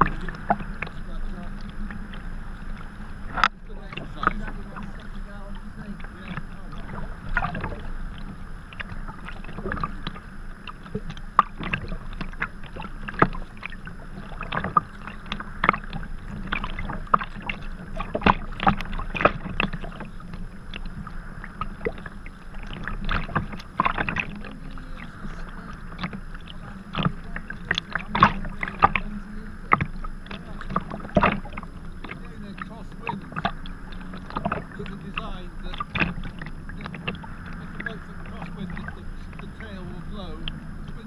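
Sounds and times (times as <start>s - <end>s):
paddle blades dipping: 0.0s - 41.0s
water washing: 0.0s - 41.0s
waves slapping against hull: 0.0s - 41.0s.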